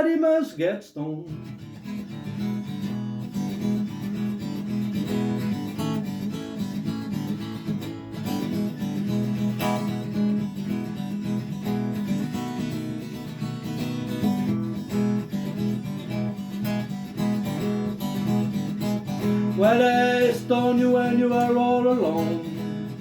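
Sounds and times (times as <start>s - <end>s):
acoustic guitar strumming chords: 1.2s - 23.0s.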